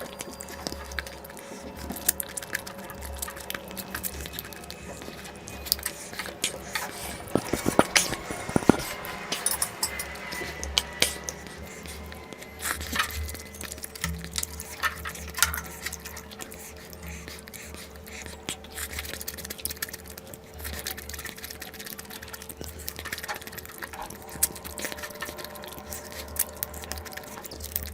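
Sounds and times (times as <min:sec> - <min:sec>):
faint steady hum: 0:00.0 - 0:27.9
wet chewing: 0:00.0 - 0:27.9.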